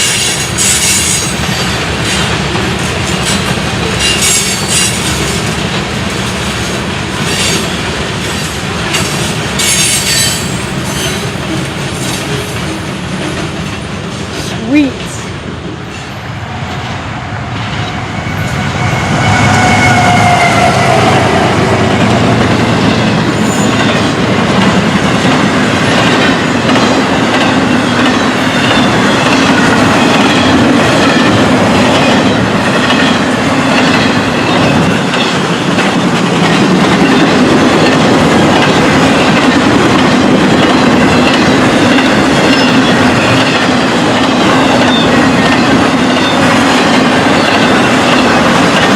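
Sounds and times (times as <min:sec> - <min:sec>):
train wheels clattering over rail joints: 0:00.0 - 0:14.6, 0:21.3 - 0:48.9.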